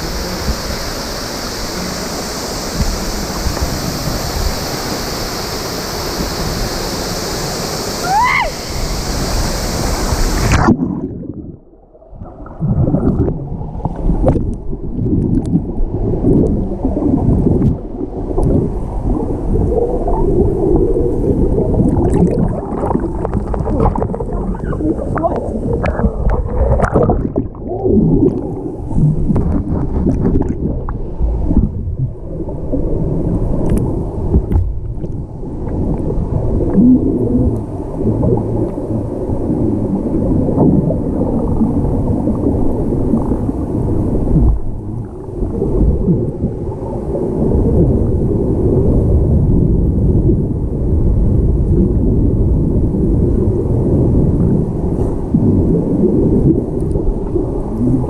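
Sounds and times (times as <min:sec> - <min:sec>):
muffled underwater rumble and gurgling: 0:00.0 - 0:58.0.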